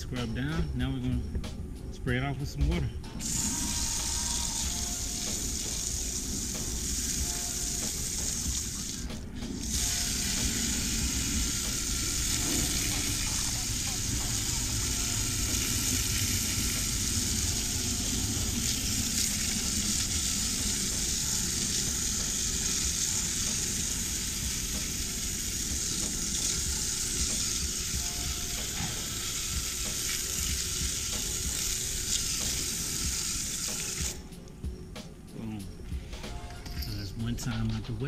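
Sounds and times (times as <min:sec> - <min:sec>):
hose spraying water on tyre: 0:03.2 - 0:34.2.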